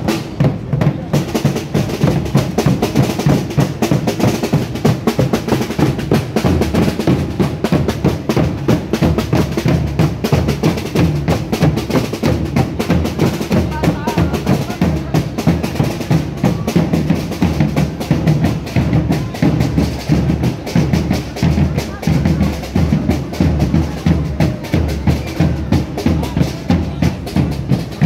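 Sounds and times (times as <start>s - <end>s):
bass drums beating: 0.0s - 28.0s
snare drums beating: 0.0s - 28.0s.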